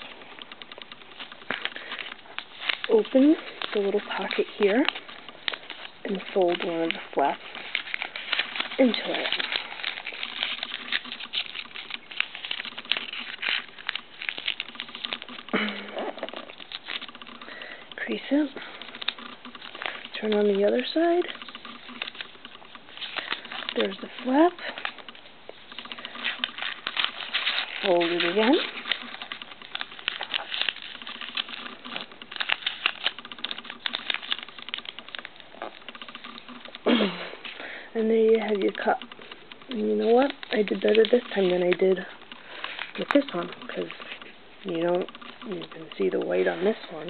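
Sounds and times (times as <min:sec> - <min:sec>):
paper rustling and crackling: 0:00.0 - 0:47.0.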